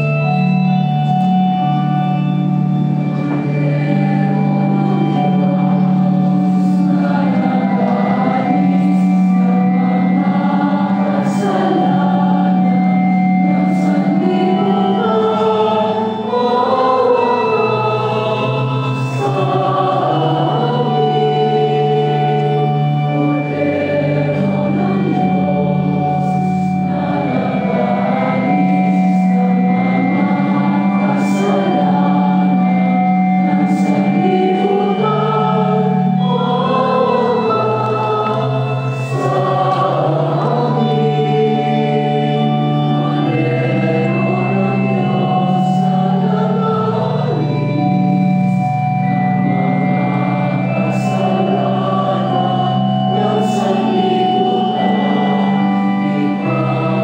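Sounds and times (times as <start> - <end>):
church choir singing a hymn: 0.0 - 57.0
keyboard holding low notes: 0.0 - 57.0.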